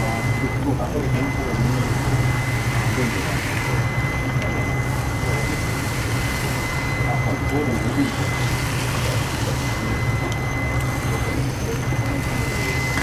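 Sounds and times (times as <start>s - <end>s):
indistinct voices: 0.0s - 13.0s
mechanical hum and rush: 0.0s - 13.0s
thin high whine: 0.0s - 13.0s.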